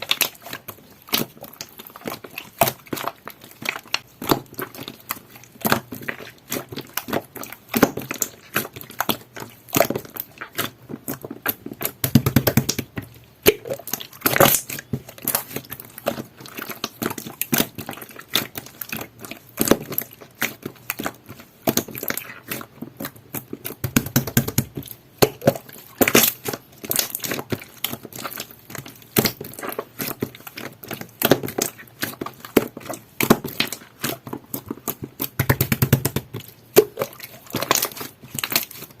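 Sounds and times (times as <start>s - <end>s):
slime clicking and crackling: 0.0s - 39.0s
slime squelches: 0.0s - 39.0s.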